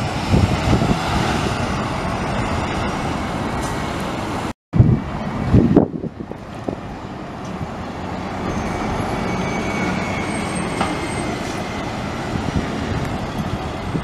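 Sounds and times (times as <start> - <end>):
bus engine driving past: 0.0 - 14.0
road noise: 0.0 - 14.0.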